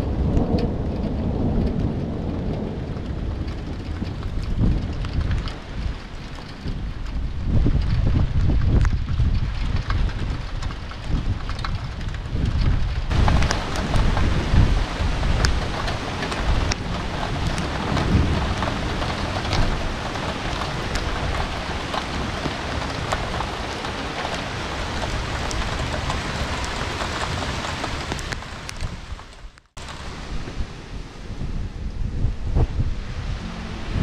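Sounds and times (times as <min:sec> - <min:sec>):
raindrops ticking on surfaces: 0:00.0 - 0:32.0
heavy rain falling: 0:00.0 - 0:34.0
low rumble of thunder: 0:00.0 - 0:34.0.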